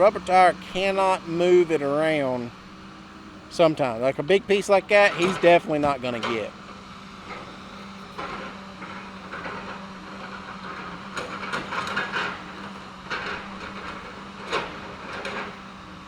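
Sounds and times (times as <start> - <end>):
distant diesel engine running: 0.0 - 16.0.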